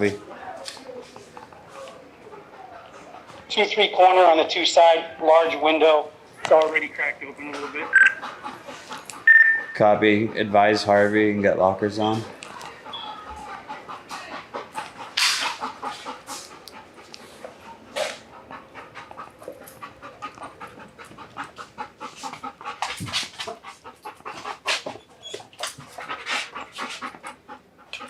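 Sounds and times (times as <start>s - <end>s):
dog panting hard: 0.0s - 28.0s.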